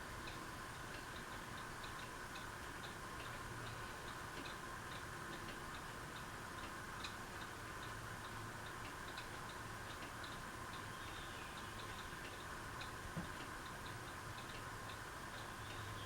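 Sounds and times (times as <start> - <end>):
ceiling fan motor hum: 0.0 - 16.0
light regular ticking: 0.1 - 16.0.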